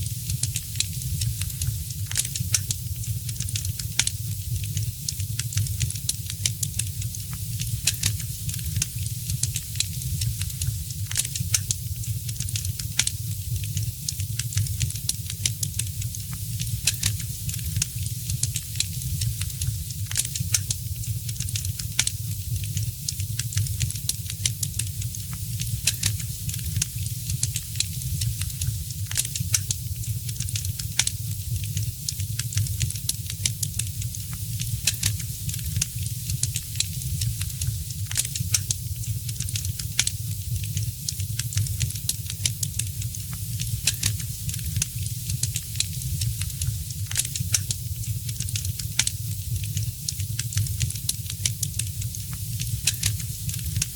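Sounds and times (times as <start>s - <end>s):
wood fire crackling: 0.0s - 53.9s
sharp pops and snaps: 0.1s - 53.9s.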